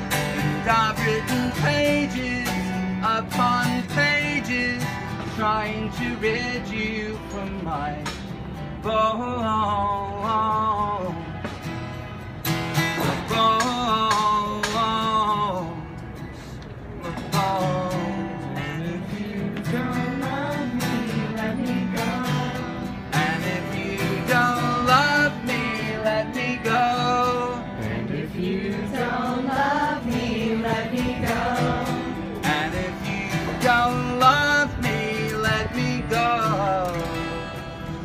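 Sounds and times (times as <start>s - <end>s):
acoustic guitar strumming: 0.0s - 38.0s
man singing: 0.4s - 8.2s, 8.8s - 11.4s, 13.1s - 15.9s, 17.0s - 29.3s, 29.9s - 37.5s.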